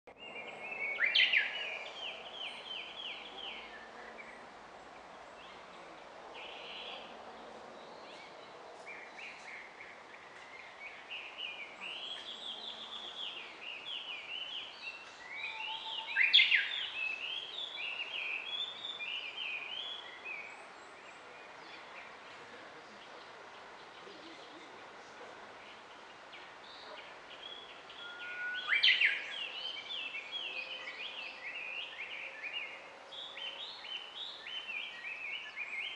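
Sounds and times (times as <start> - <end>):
songbirds chirping: 0.1 - 35.9.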